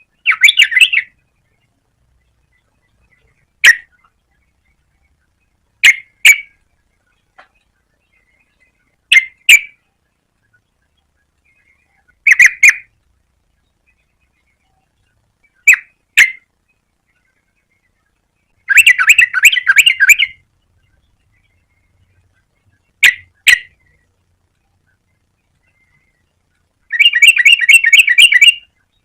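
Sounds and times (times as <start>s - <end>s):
bulbul calling: 0.0s - 29.0s.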